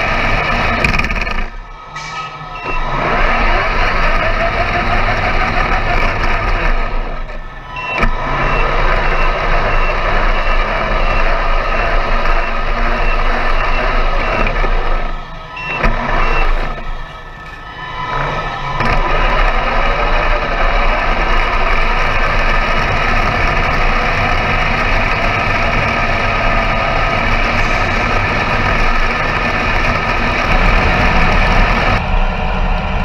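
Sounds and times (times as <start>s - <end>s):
model racing car engines: 0.0s - 33.0s.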